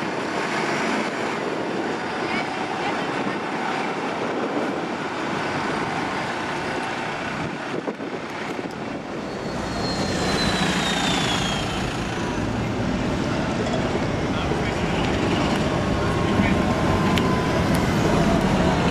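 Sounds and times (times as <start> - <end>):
bus and tram traffic: 0.0 - 18.9
vehicle engine rumble: 0.0 - 18.9.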